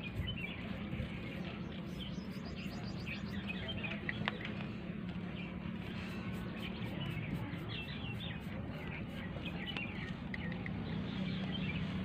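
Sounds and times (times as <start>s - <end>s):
low outdoor hum: 0.0s - 12.0s
small birds chirping: 0.0s - 12.0s.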